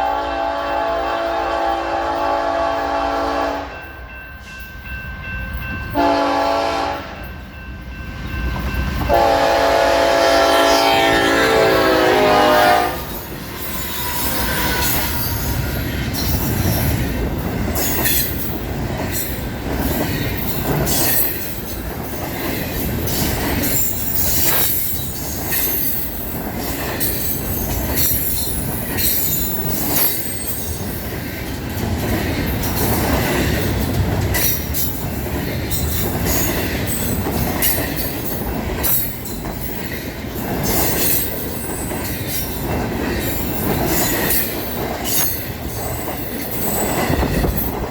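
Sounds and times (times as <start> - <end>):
freight train wheels rumbling on rail: 0.0 - 47.9
train cars clicking and clanking: 0.0 - 47.9.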